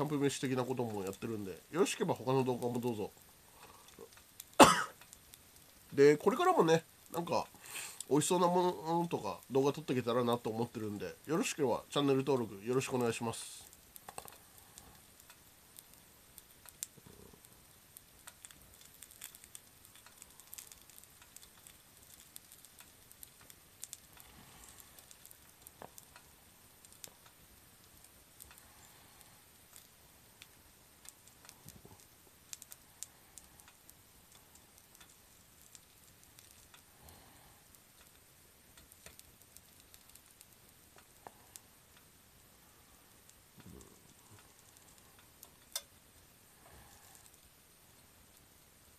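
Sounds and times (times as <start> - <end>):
food sizzling on hot plate: 0.0 - 48.9
small pops and ticks: 0.0 - 48.9.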